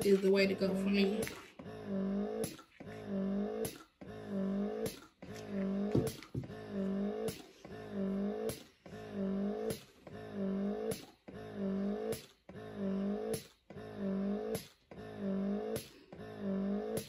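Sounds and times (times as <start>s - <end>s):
breast pump motor hum: 0.0s - 17.0s.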